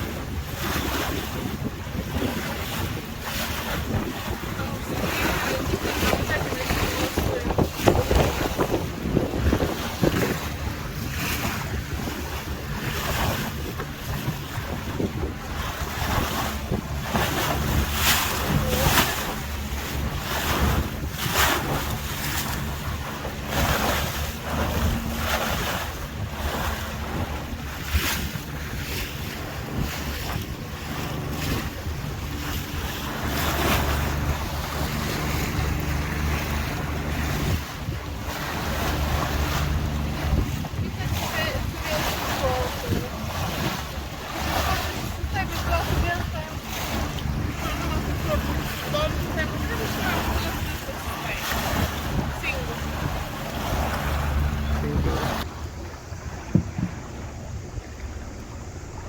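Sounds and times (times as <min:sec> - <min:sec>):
boat motor humming: 0:00.0 - 0:59.0
water splashing against hull: 0:00.0 - 0:59.0
wind buffeting microphone: 0:00.0 - 0:59.0.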